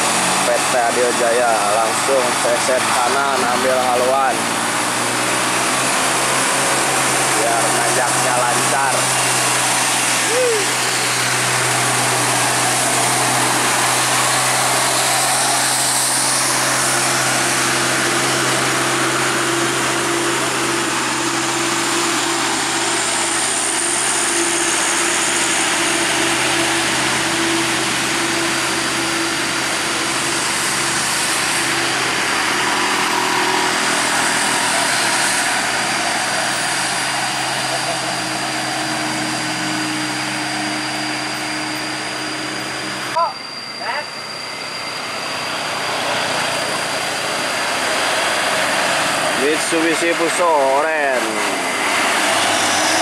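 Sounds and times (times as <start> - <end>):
diesel truck engine drone: 0.0 - 53.0
road noise: 0.0 - 53.0.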